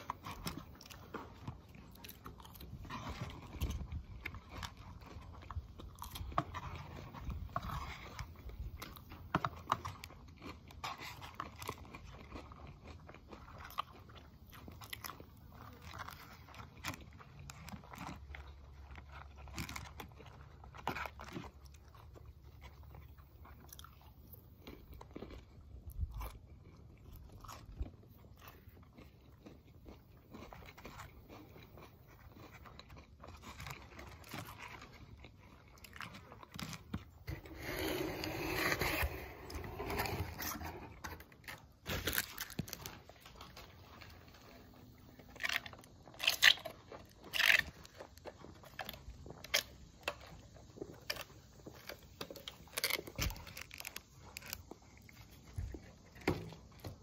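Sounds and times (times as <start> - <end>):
chewing and crunching lettuce: 0.0 - 57.0.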